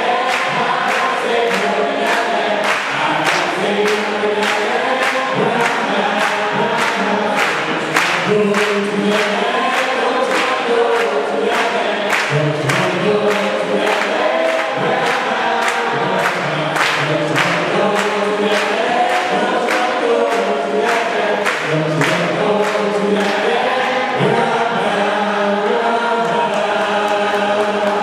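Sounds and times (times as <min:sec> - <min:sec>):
gospel group singing: 0:00.0 - 0:28.0
hands clapping on the beat: 0:00.0 - 0:28.0.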